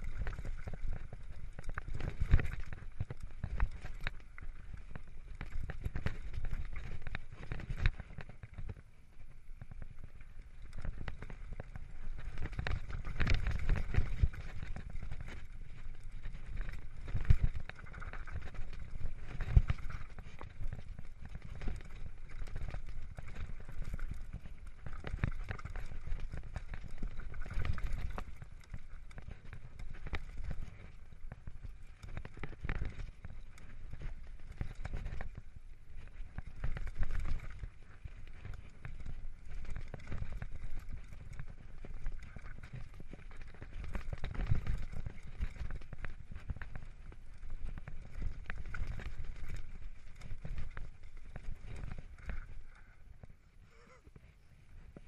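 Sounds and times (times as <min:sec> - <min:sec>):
bike tyres rolling over stones: 0:00.0 - 0:53.6.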